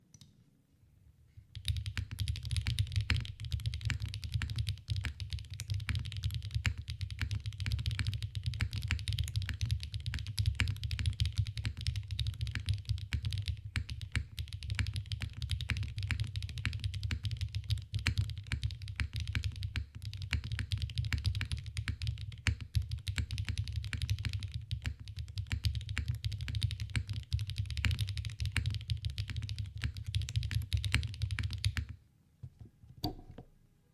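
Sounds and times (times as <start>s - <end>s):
mechanical keyboard typing: 1.6s - 31.9s.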